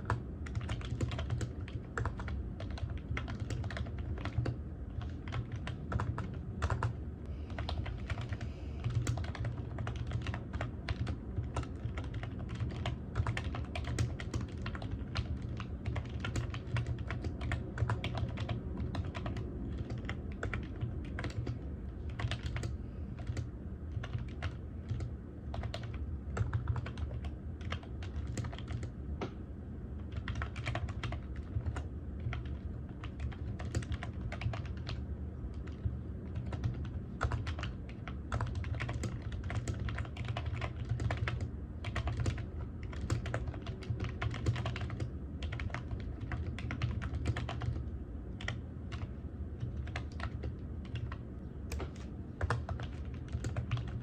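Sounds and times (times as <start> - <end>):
typing on keyboard: 0.0 - 28.9, 30.0 - 54.0.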